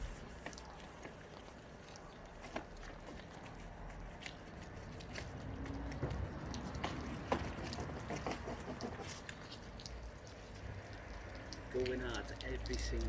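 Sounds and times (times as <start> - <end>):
brush scrubbing a gutter: 0.0 - 13.0.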